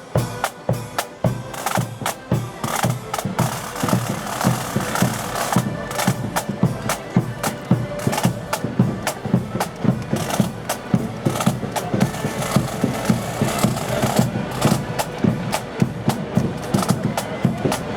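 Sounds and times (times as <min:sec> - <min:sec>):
accordions playing a march: 0:00.0 - 0:17.9
snare and bass drums: 0:00.0 - 0:17.9.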